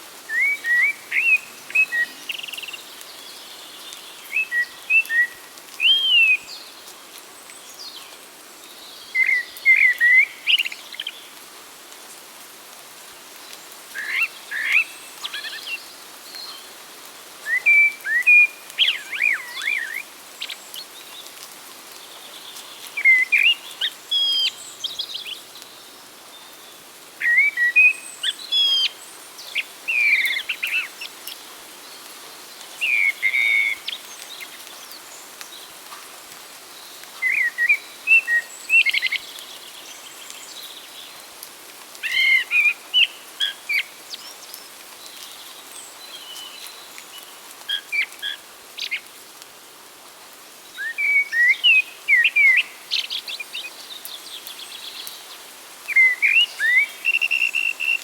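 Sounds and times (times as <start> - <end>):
songbird singing: 0.0 - 11.4, 13.2 - 16.8, 17.4 - 36.0, 36.6 - 41.3, 41.9 - 49.2, 50.6 - 58.0
steady background hiss: 0.0 - 58.0.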